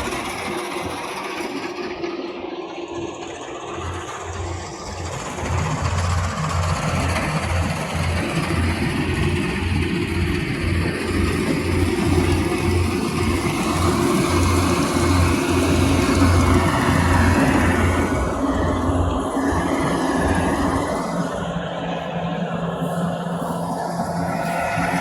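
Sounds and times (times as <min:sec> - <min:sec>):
engine running with low pulsing: 0:00.0 - 0:25.0.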